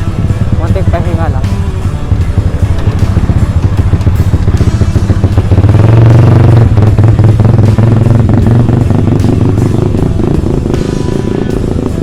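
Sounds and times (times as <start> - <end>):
background music: 0.0 - 12.0
loud low rumble: 0.0 - 12.0.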